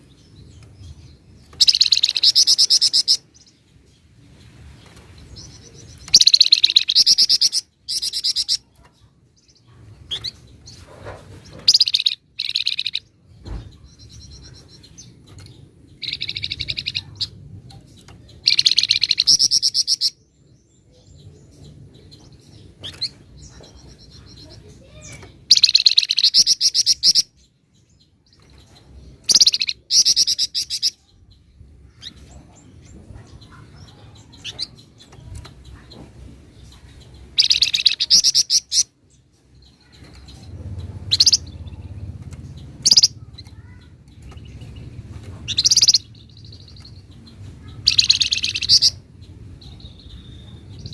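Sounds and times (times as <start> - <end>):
songbird rattling chatter: 1.4 - 3.5, 4.7 - 20.1, 22.1 - 27.2, 31.8 - 50.9.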